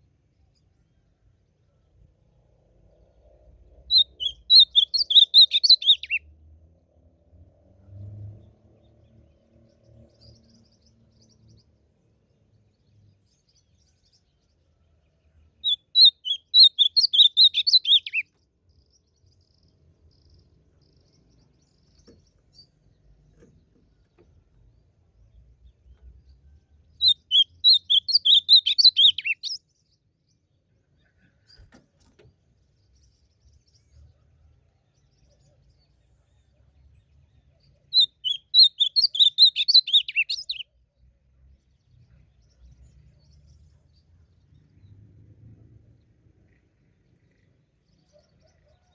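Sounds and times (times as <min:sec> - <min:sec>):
bird warbling song: 0:03.1 - 0:06.2, 0:08.4 - 0:45.1.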